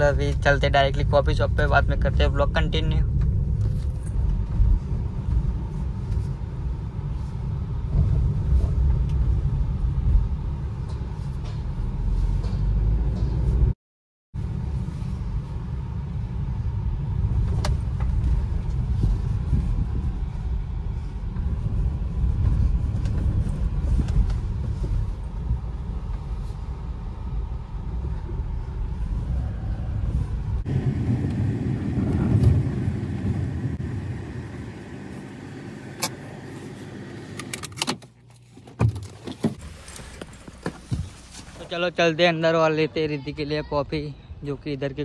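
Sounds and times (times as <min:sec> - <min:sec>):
car road and engine rumble: 0:00.0 - 0:13.8, 0:14.4 - 0:45.0.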